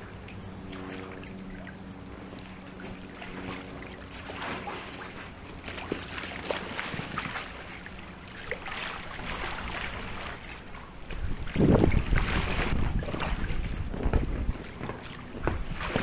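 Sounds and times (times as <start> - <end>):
pool water sloshing and splashing: 0.0 - 16.0
rush of water: 0.0 - 16.0.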